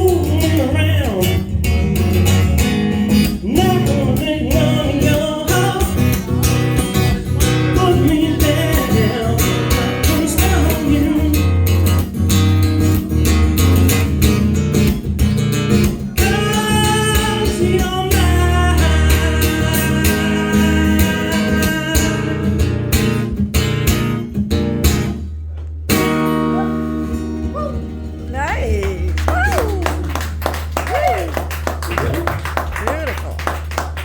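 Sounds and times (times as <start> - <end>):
live blues band: 0.0 - 34.0.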